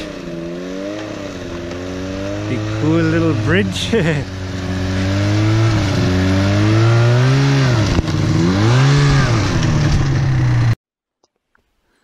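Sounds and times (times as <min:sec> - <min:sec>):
snowmobile engine revving: 0:00.0 - 0:10.8.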